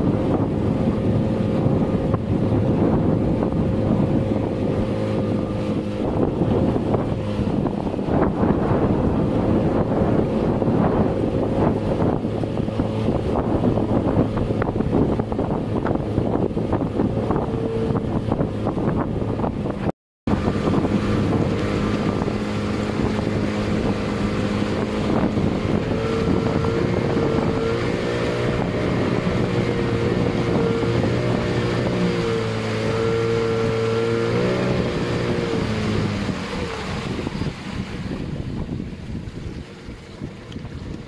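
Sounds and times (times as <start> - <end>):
motorboat engine running: 0.0 - 41.0
wind on microphone: 0.0 - 41.0.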